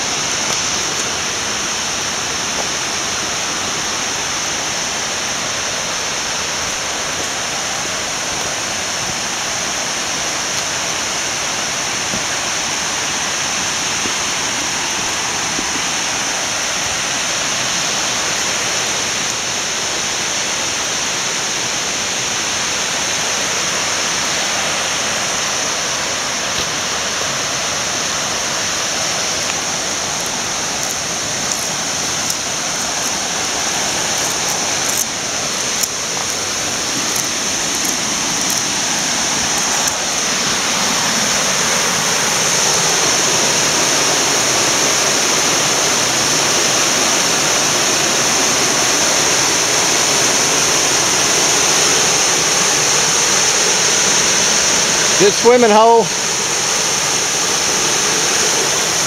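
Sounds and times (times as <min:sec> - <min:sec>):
rushing water of waterfall: 0:00.0 - 0:59.0.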